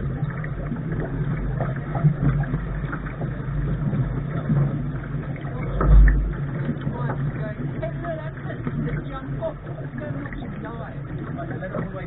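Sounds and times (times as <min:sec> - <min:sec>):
wind and water on a boat bow: 0:00.0 - 0:12.0.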